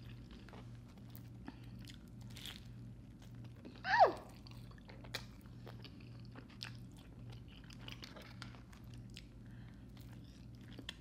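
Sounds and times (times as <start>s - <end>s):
chewing with wet mouth smacks: 0.0s - 11.0s
steady low hum: 0.0s - 11.0s.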